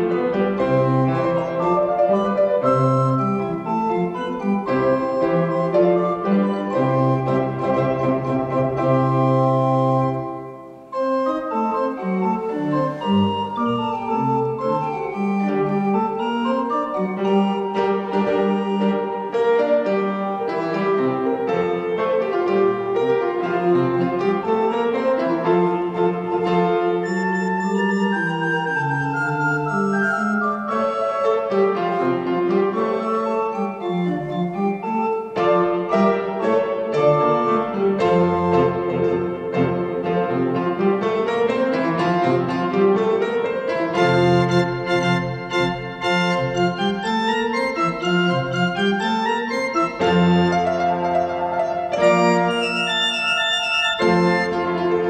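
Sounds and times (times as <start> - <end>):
organ and piano playing: 0.0 - 55.0.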